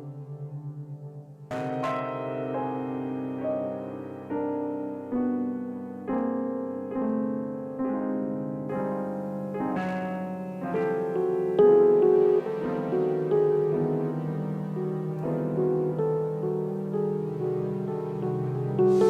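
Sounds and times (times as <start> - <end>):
electronic keyboard piano chords: 0.0 - 19.0.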